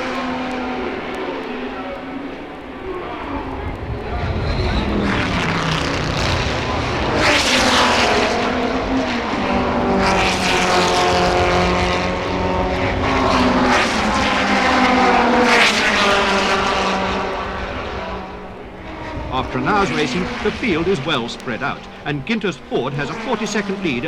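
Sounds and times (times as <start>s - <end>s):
racing cars passing at speed: 0.0s - 24.0s.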